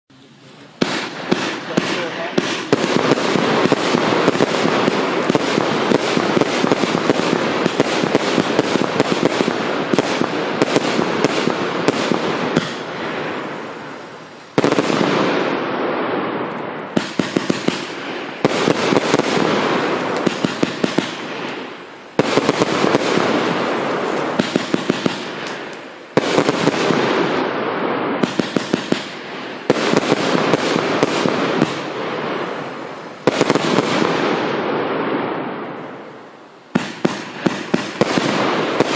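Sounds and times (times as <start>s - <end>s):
firework cake crackling and popping: 0.1s - 38.9s.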